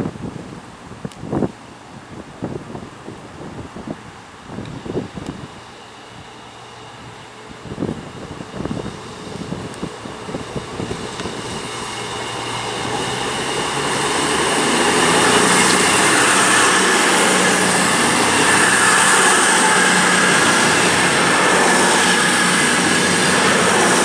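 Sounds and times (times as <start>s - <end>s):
wind buffeting microphone: 0.0s - 24.0s
diesel train running past: 2.9s - 24.0s.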